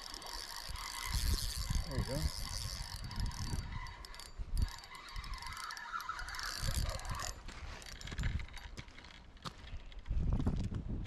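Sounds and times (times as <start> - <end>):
spinning reel gears whirring: 0.0 - 9.4.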